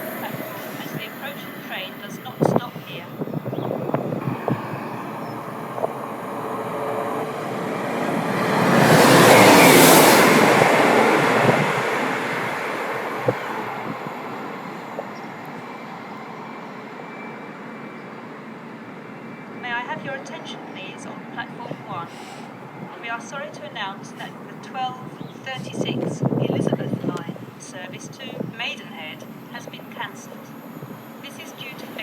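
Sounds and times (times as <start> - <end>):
passenger train passing: 0.0 - 32.0.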